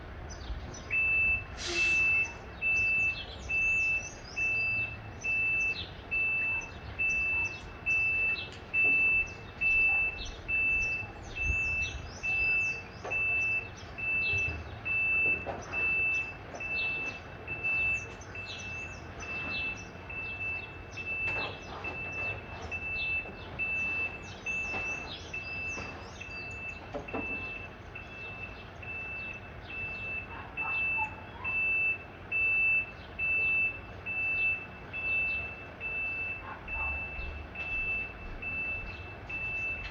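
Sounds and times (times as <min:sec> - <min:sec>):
truck reverse alarm beeping: 0:00.8 - 0:39.9.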